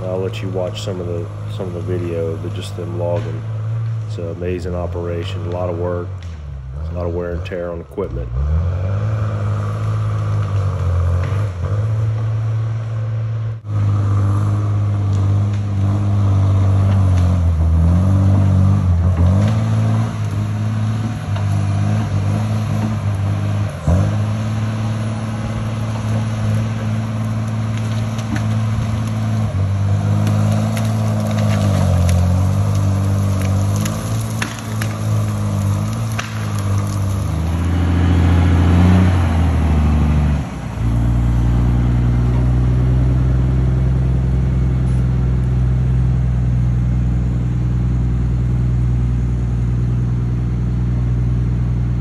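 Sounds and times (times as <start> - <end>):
wood cracking: 0.0 - 12.3, 13.7 - 46.7
diesel engine under load: 0.0 - 52.0.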